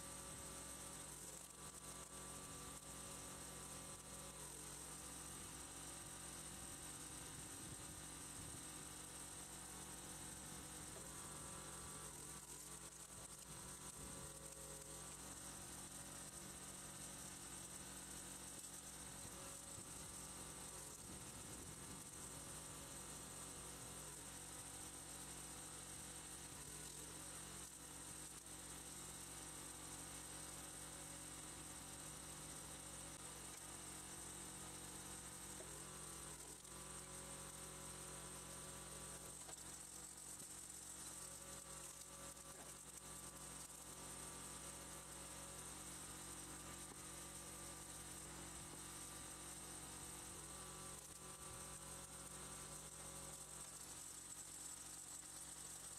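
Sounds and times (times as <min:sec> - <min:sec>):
faint hum and buzz: 0:00.0 - 0:55.9.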